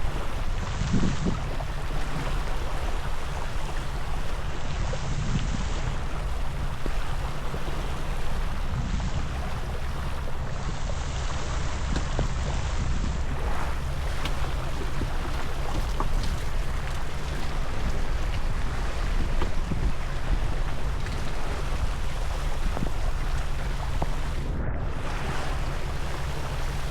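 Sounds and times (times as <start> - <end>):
water rushing along hull: 0.0 - 26.9
wind buffeting microphone: 0.0 - 26.9.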